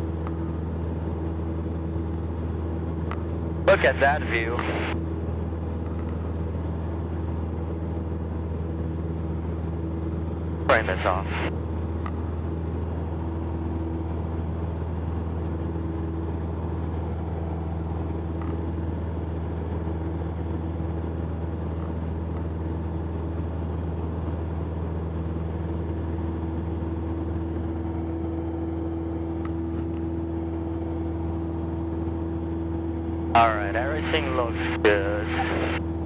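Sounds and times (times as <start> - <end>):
airplane engine and propeller droning: 0.0 - 36.0.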